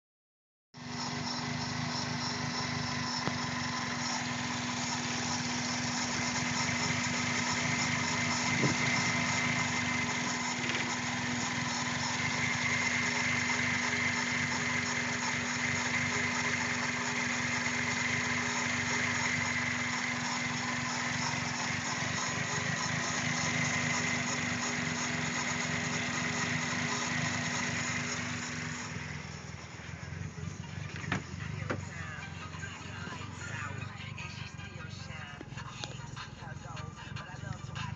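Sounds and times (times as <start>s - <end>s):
car engine idling: 0.8s - 37.9s.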